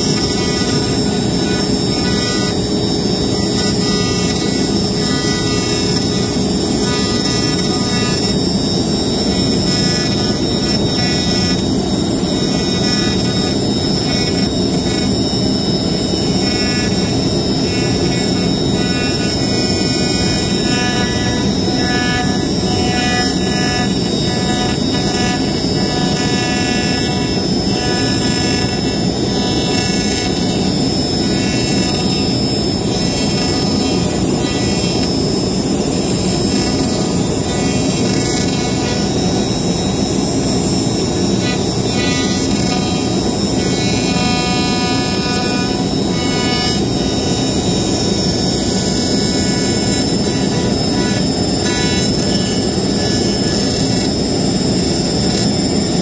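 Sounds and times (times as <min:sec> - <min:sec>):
bit carving wood: 0:00.0 - 0:56.0
cnc router spindle whining: 0:00.0 - 0:56.0.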